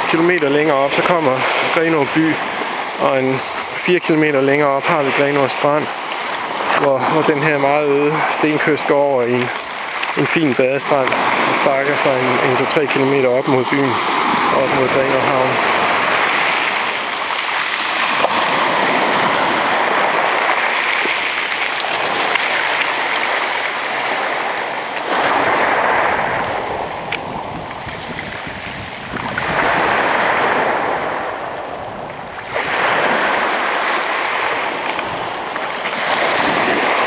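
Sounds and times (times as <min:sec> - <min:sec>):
waves washing up pebble beach: 0:00.0 - 0:37.0.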